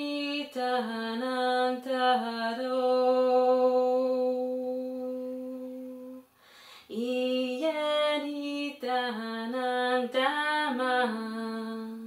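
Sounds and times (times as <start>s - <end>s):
woman singing wordless chant: 0.0s - 12.0s.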